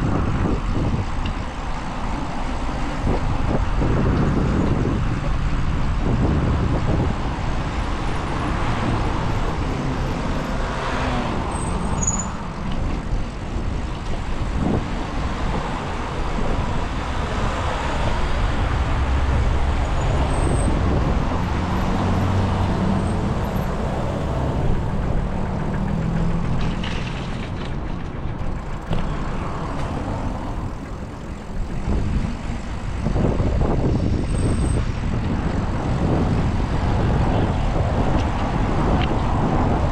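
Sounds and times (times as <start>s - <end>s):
cars and trucks passing: 0.0s - 39.9s.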